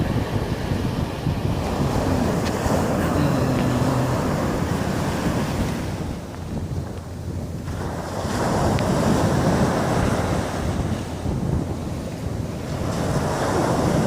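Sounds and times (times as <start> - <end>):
ocean waves washing on shore: 0.0 - 14.0
wind buffeting microphone: 0.0 - 14.0.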